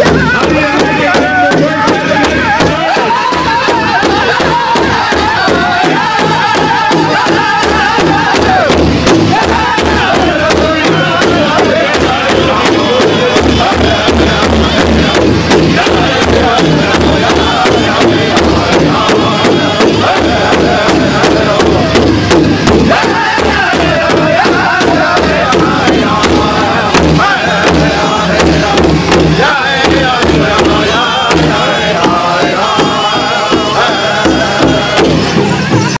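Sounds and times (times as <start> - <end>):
large hide drum beating: 0.0 - 36.0
men singing in high voices: 0.0 - 36.0.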